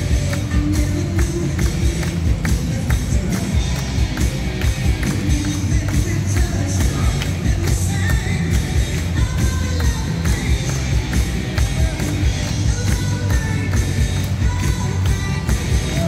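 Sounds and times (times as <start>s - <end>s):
person singing: 0.0s - 4.3s, 5.0s - 16.0s
steady drumbeat: 0.0s - 16.0s.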